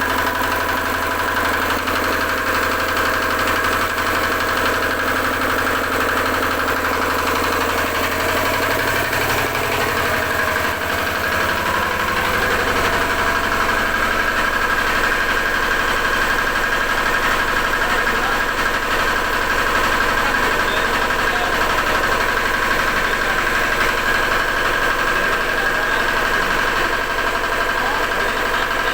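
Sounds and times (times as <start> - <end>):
generator engine running: 0.0 - 28.9.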